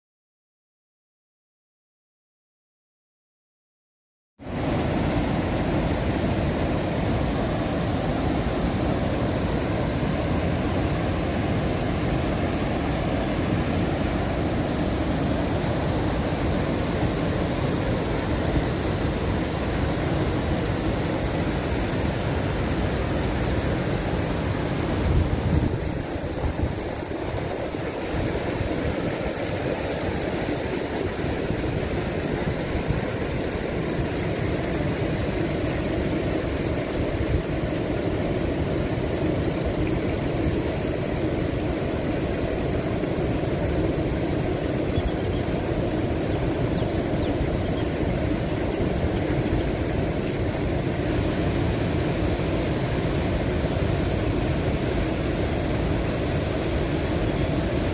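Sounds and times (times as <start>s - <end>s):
water rushing over weir: 4.4s - 57.9s.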